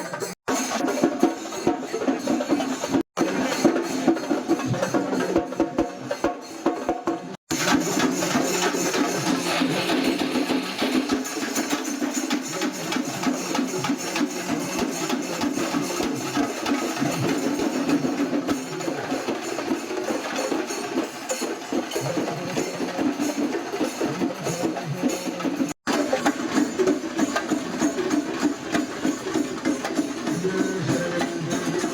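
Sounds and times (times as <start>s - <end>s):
percussion ensemble playing drums: 0.0s - 31.9s.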